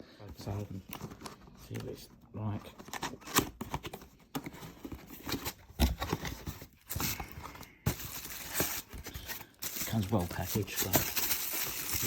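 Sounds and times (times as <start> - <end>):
cardboard packaging rustling: 0.4 - 12.0.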